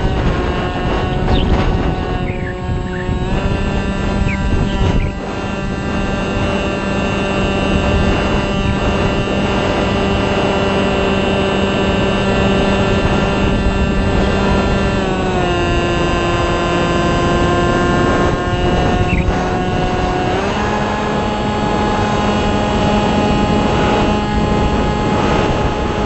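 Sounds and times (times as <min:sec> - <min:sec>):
model plane motor whining: 0:00.0 - 0:26.0.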